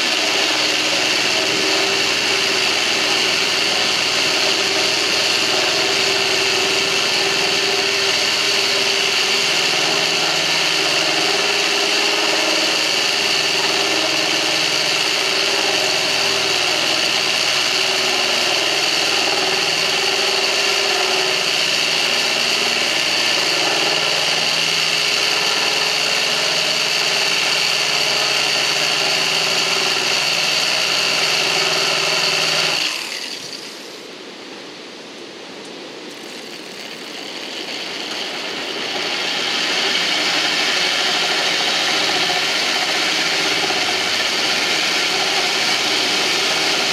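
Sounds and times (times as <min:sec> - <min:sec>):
electric drill grinding glass: 0:00.0 - 0:34.0, 0:36.1 - 0:46.9.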